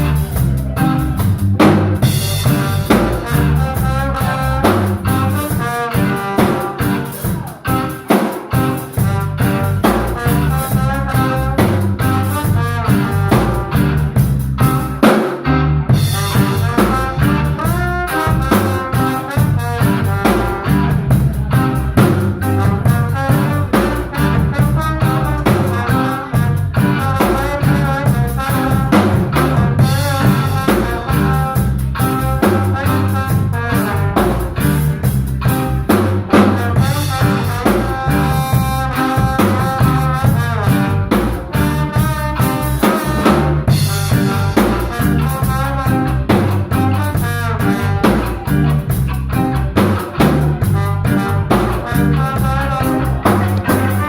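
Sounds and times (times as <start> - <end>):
drum kit with rimshots: 0.0 - 54.0
jazzy instrumental band: 0.0 - 54.0.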